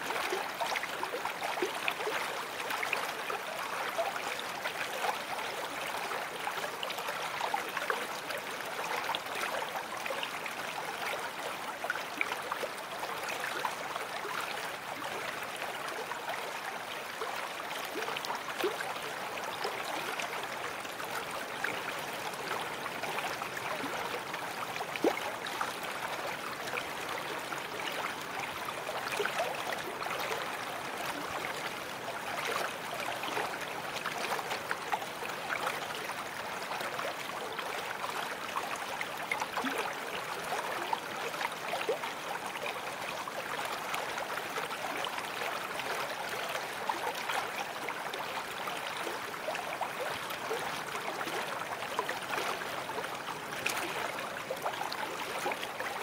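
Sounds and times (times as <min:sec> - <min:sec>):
brook water gurgling: 0:00.0 - 0:56.0.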